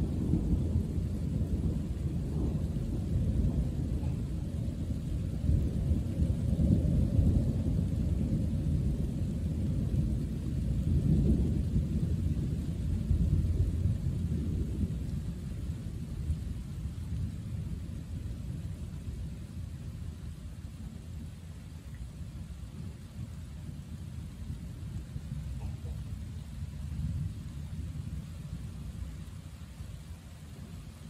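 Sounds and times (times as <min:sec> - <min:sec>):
rolling thunder: 0:00.0 - 0:21.5, 0:22.1 - 0:31.0.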